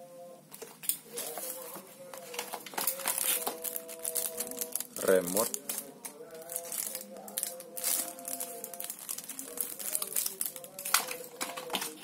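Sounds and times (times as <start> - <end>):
faint music: 0.0 - 12.0
plastic wrapping rustling: 0.6 - 12.0.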